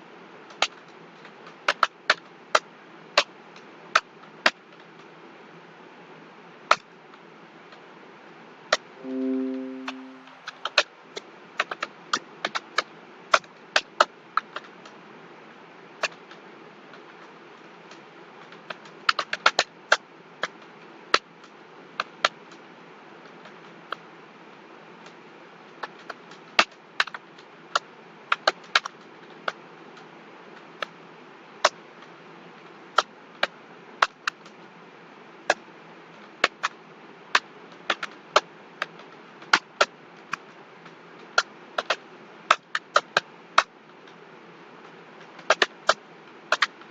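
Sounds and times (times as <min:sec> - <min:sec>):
faint steady hiss: 0:00.0 - 0:46.9.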